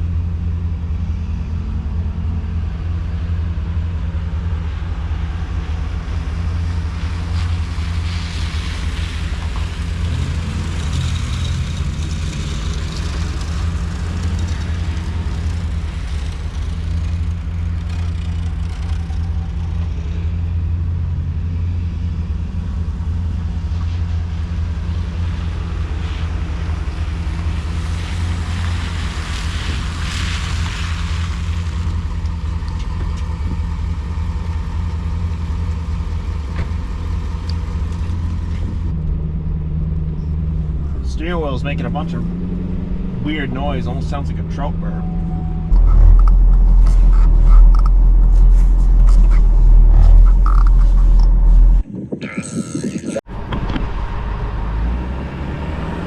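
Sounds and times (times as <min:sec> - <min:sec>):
pickup truck engine droning: 0:00.0 - 0:56.0.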